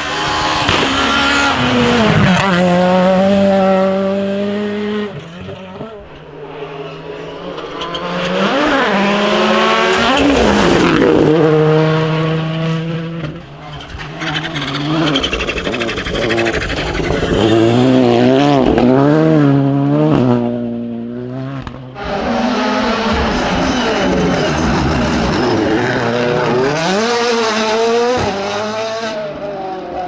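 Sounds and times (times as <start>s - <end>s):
rally car engines at high revs: 0.0s - 30.0s.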